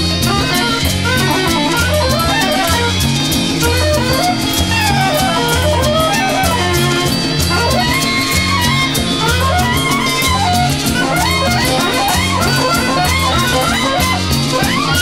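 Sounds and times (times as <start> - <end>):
guitar-led rock music: 0.0 - 15.0.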